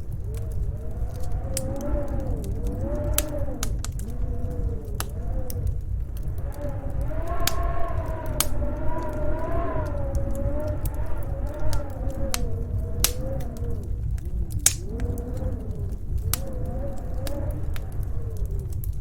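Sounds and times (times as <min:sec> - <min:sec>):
howling snowstorm wind: 0:00.0 - 0:19.0
wood fire crackling and popping: 0:00.0 - 0:19.0.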